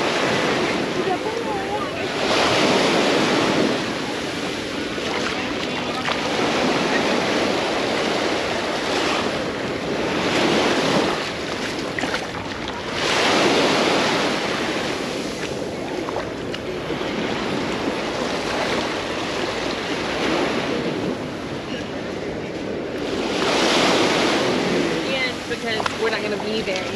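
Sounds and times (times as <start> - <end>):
small sea waves breaking on beach: 0.0 - 26.9.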